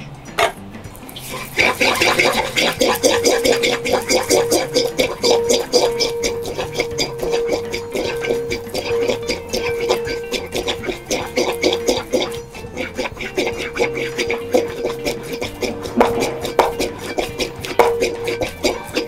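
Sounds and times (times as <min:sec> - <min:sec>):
pestle grinding wet paste: 0:00.4 - 0:19.0.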